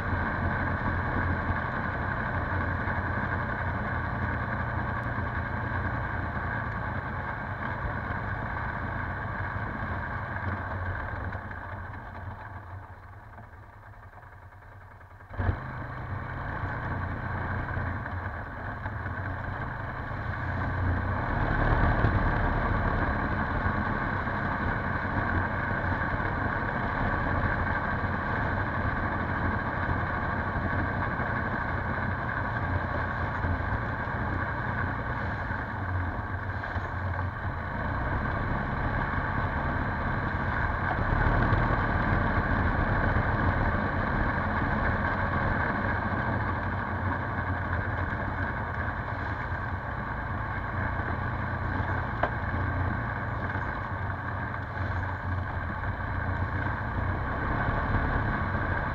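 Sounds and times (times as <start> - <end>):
atv engine running: 0.0 - 58.9.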